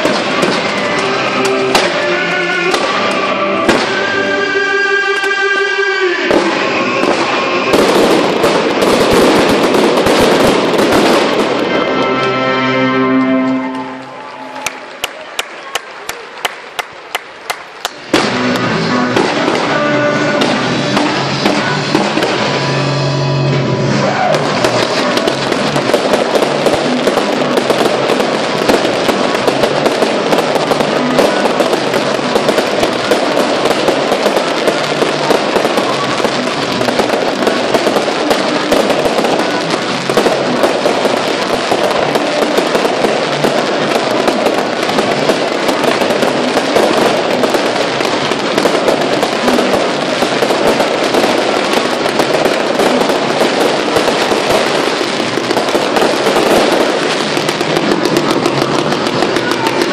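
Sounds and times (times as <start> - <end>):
fireworks bangs and crackles: 0.0 - 12.7, 13.4 - 59.9.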